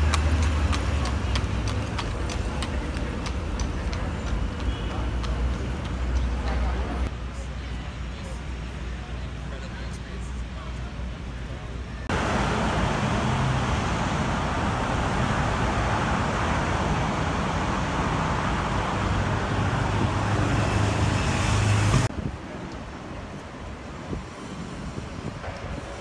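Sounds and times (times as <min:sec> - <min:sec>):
city road traffic: 0:00.0 - 0:26.0.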